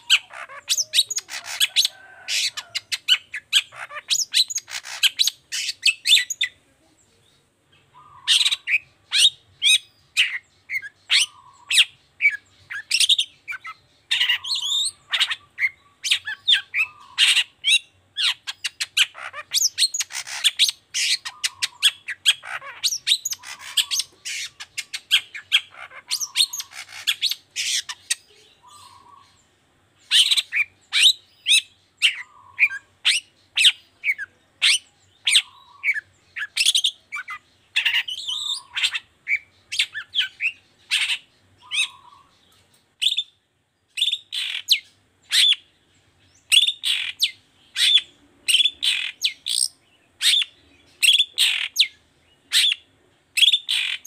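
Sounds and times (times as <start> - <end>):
bird chattering call: 0.0 - 6.5, 7.9 - 29.4, 30.0 - 42.4, 46.5 - 52.8.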